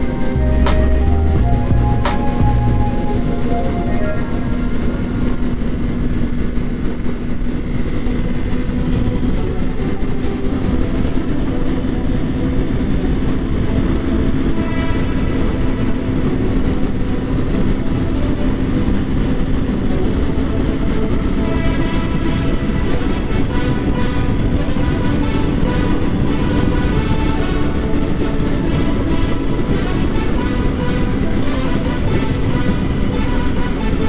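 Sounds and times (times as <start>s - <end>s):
wind rushing on microphone: 1.6s - 34.0s.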